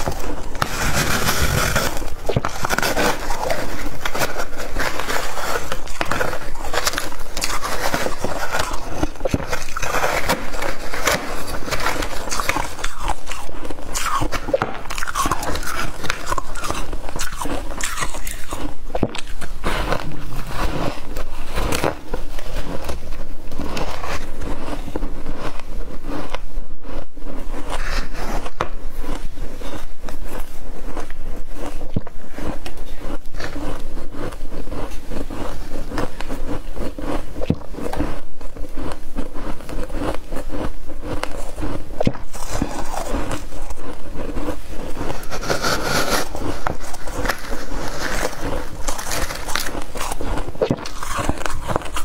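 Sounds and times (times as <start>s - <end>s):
frost being chewed crunching: 0.0s - 52.0s.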